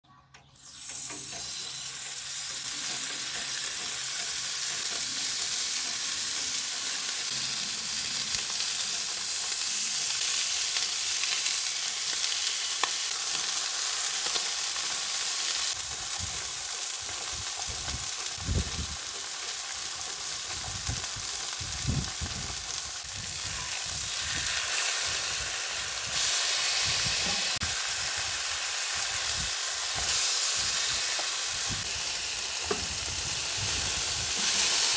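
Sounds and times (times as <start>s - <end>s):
bacon sizzling on griddle: 0.6s - 34.9s.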